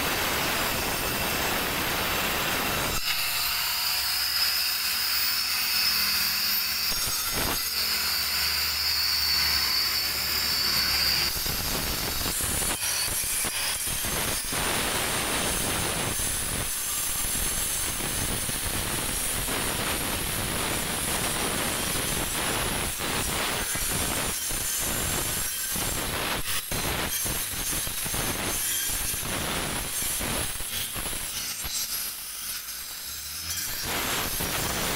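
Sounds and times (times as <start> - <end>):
angle grinder grinding stone: 0.0 - 34.9.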